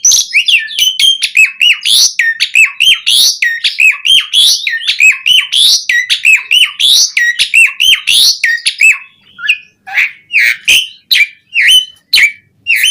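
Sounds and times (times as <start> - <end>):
starling singing: 0.0 - 12.9.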